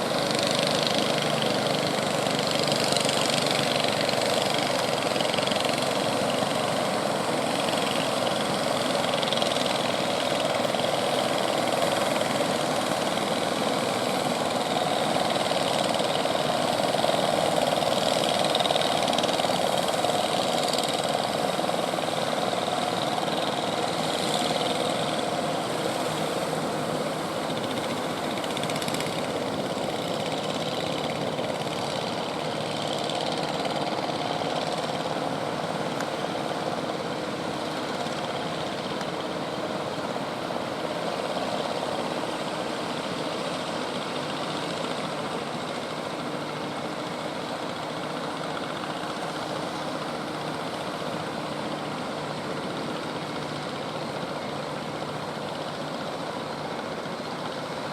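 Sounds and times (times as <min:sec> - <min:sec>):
motor engine running: 0:00.0 - 0:57.9.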